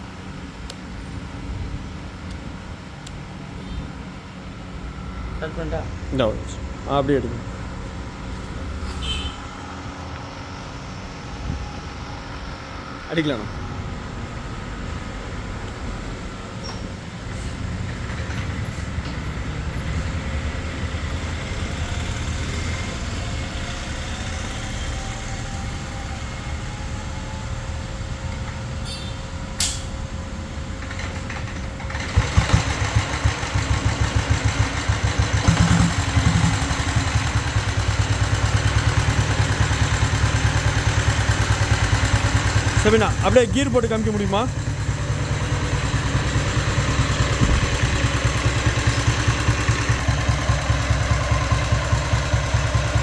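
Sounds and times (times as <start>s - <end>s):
single-cylinder engine running: 4.7s - 53.0s.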